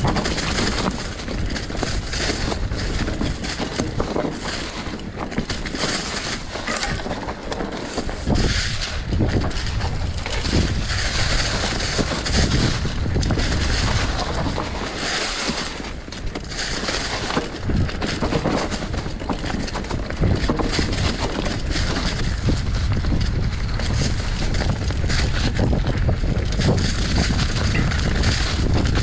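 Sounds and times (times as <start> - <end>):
bike tyres crunching dry leaves: 0.0 - 19.3, 23.6 - 29.0
bike rattling clicks: 0.0 - 29.0
wind rumble on microphone: 0.0 - 29.0.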